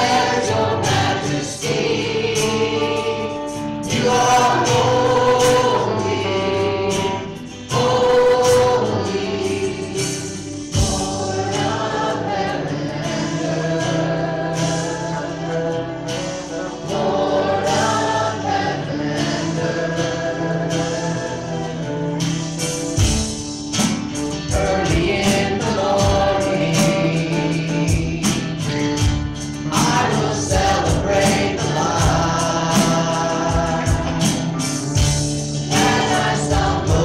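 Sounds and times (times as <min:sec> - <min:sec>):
congregation singing a hymn: 0:00.0 - 0:37.0
instrumental accompaniment: 0:00.0 - 0:37.0.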